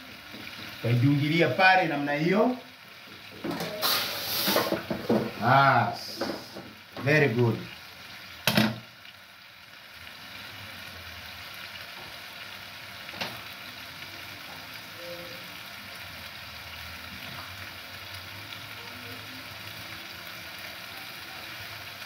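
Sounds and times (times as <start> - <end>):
food sizzling in pans: 0.0 - 22.0.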